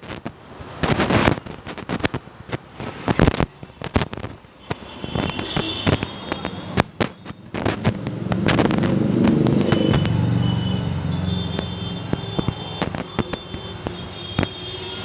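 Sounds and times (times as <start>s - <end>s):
firecrackers cracking and popping: 0.0s - 15.0s.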